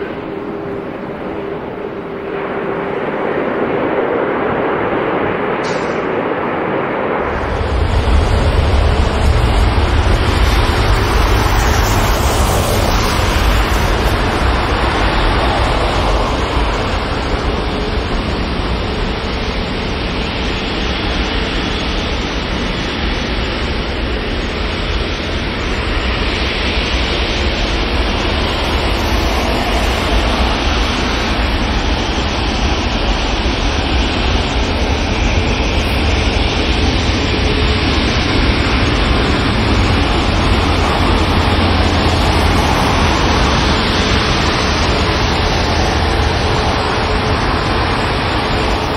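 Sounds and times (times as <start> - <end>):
jet engines rushing: 0.0 - 48.9.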